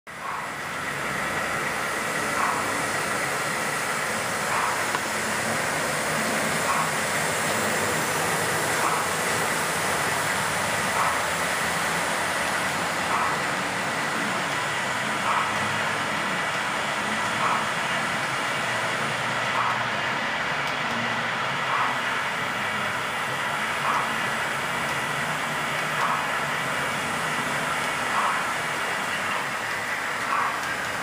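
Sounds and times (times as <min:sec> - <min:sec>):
model train rushing hum: 0:00.1 - 0:31.0.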